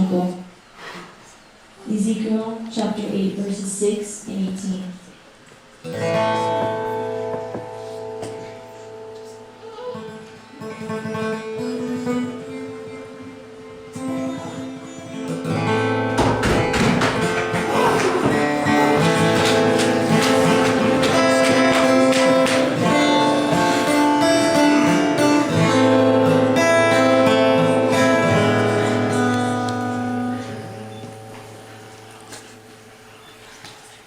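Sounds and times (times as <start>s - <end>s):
plucked acoustic guitar music: 5.8s - 33.4s.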